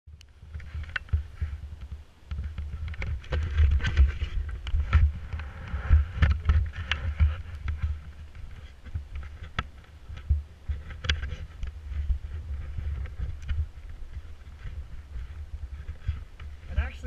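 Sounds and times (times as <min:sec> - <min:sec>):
camera being handled: 0:00.5 - 0:16.6.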